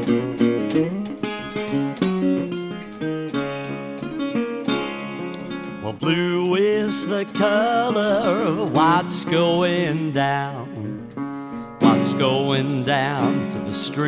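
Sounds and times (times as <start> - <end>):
resonator guitar gliding notes: 0.0 - 14.0.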